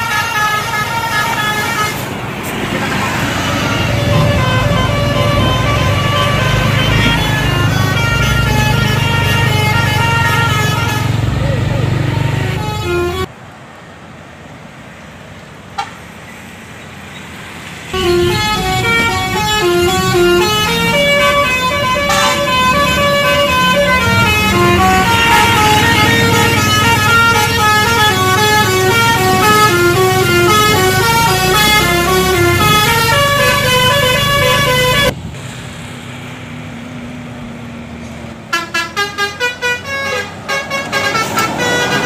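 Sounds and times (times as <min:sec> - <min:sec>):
multi-tone bus horn melody: 0:00.0 - 0:13.3, 0:17.9 - 0:35.2, 0:38.5 - 0:42.0
bus engine rumble: 0:00.0 - 0:42.0.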